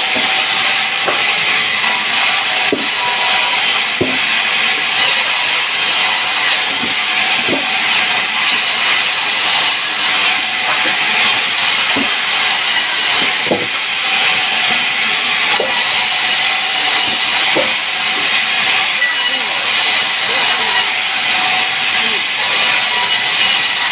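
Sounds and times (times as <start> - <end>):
saw cutting log: 0.0 - 23.9.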